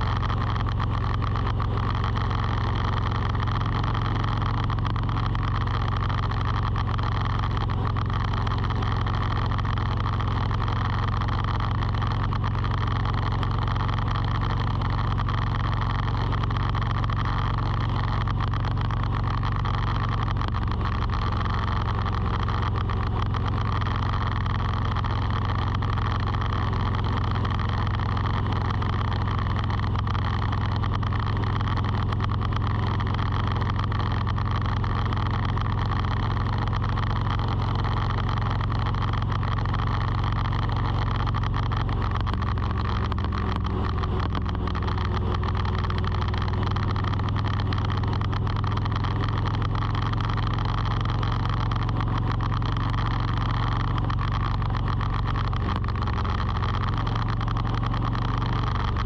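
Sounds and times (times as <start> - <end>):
steady motor hum: 0.0 - 59.0.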